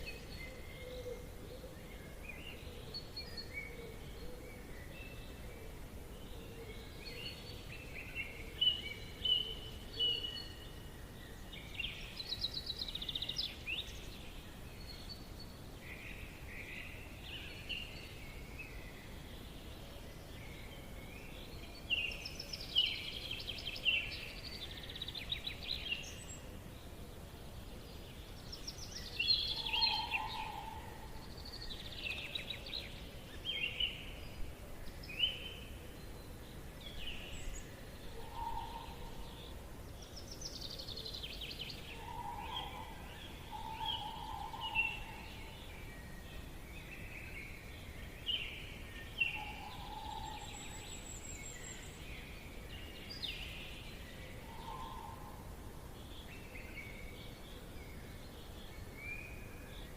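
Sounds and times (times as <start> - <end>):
birds chirping and trilling: 0.0 - 59.9
faint background hiss: 0.0 - 59.9.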